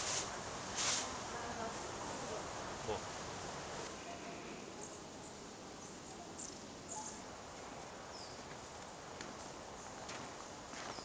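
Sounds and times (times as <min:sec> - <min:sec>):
outdoor hiss: 0:00.0 - 0:11.0.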